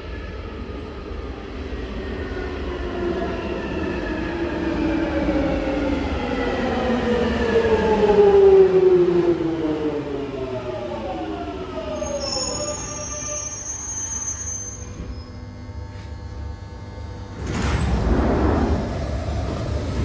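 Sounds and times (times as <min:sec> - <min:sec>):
underground train pulling in: 0:00.0 - 0:20.0.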